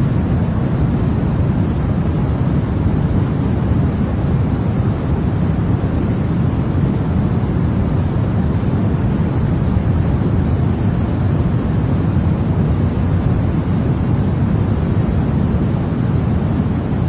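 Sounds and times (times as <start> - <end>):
deep steady white noise: 0.0 - 17.0.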